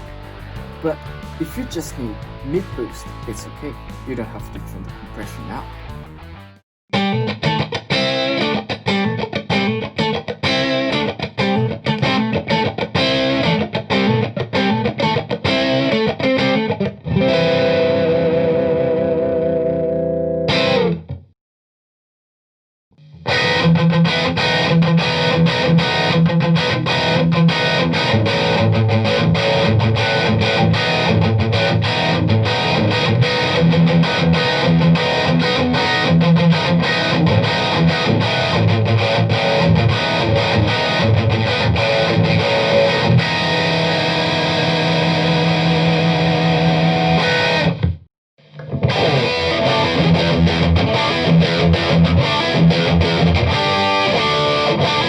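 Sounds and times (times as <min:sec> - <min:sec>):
distorted electric guitar riff: 0:00.0 - 0:21.2, 0:23.0 - 0:55.0.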